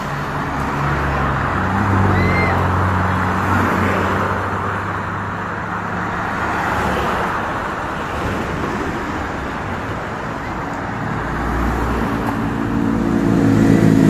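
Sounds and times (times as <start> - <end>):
tyre and traffic noise: 0.0 - 14.0
vehicle engine hum: 0.0 - 14.0.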